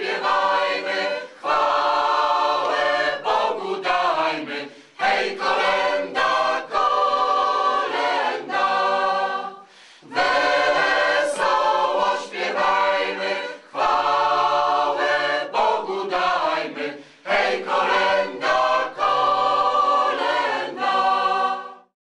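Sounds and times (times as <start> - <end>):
mixed choir singing a cappella: 0.0 - 22.0.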